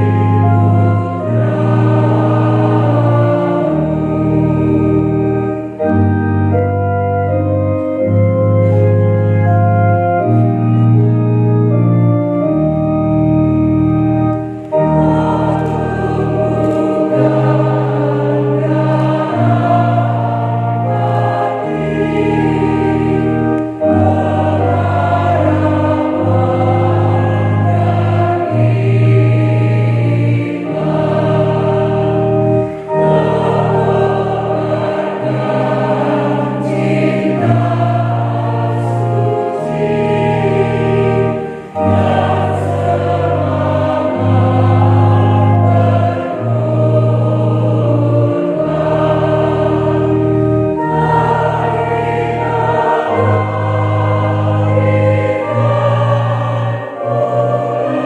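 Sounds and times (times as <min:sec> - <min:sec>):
choir singing a hymn: 0:00.0 - 0:58.0
keyboard playing organ chords: 0:00.0 - 0:58.0.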